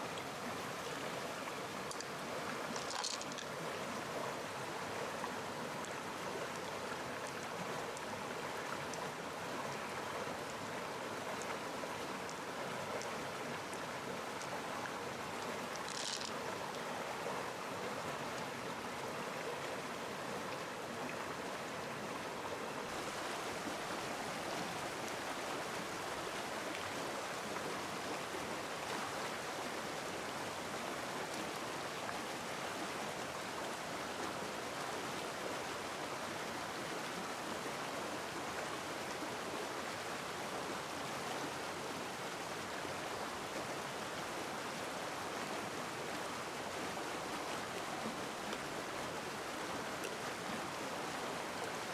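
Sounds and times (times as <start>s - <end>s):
stream rushing over rocks: 0.0s - 51.9s.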